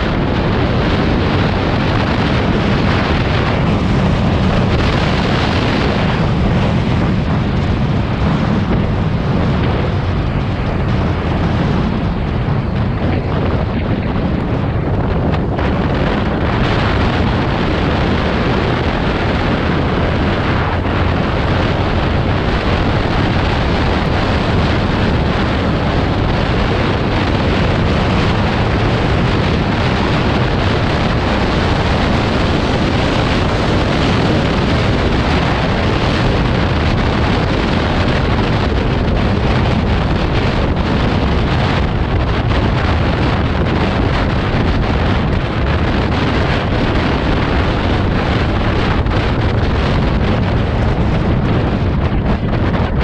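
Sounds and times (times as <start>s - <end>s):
road noise: 0.0s - 53.0s
vehicle engine: 0.0s - 53.0s
wind rushing over microphone: 0.0s - 53.0s.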